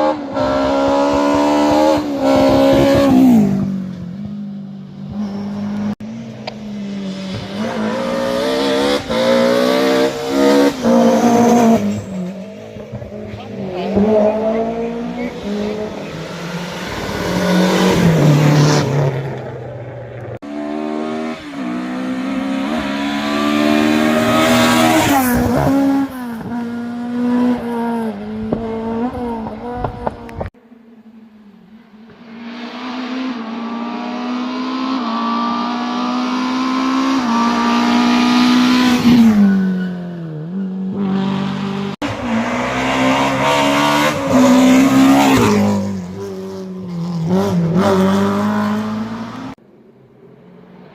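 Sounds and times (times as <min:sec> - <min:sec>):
rally car engines revving: 0:00.0 - 0:30.6, 0:32.1 - 0:50.9.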